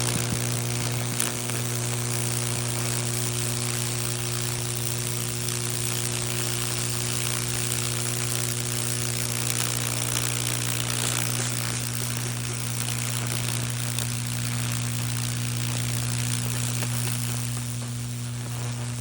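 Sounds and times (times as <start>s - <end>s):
electric current crackling on wood: 0.0s - 19.0s
low electrical hum: 0.0s - 19.0s.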